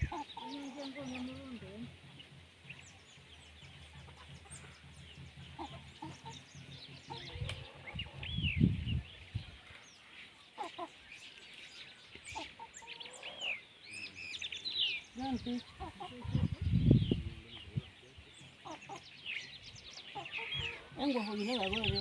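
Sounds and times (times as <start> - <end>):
chickens clucking: 0.0 - 9.8, 10.4 - 11.1, 12.1 - 13.6, 15.1 - 22.0.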